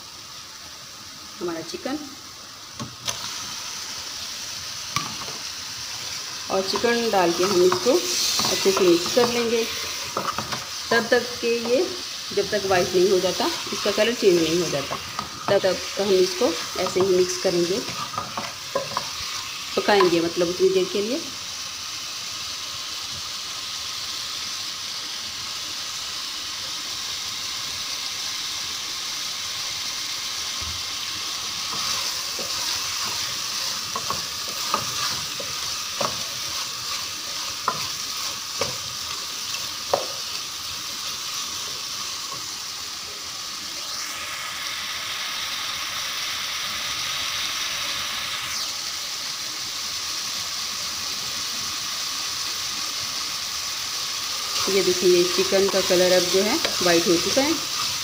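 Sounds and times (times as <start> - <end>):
chicken sizzling in a pot: 0.0 - 58.0.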